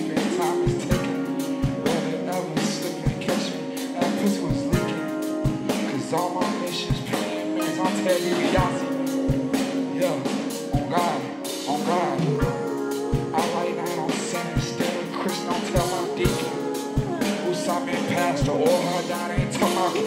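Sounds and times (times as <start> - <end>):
live concert music: 0.0 - 20.0
person singing: 0.0 - 20.0.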